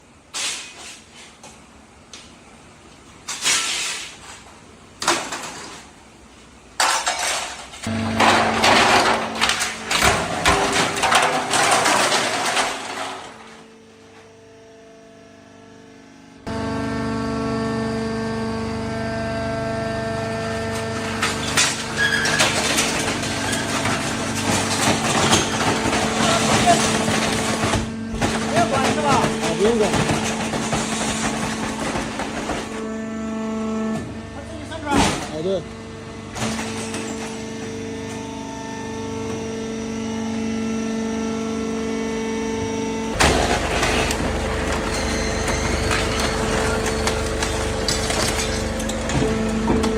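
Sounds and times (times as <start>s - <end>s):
baler power unit humming: 7.6s - 49.9s.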